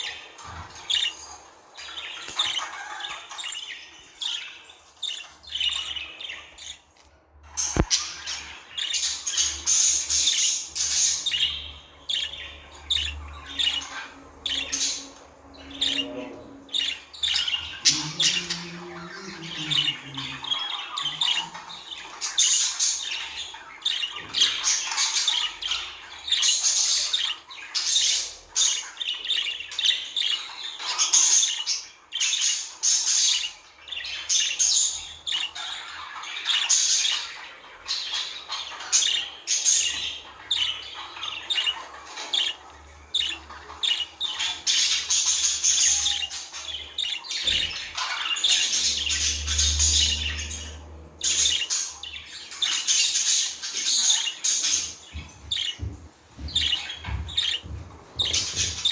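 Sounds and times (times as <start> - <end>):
budgerigars chattering: 0.0 - 6.9, 7.5 - 58.9.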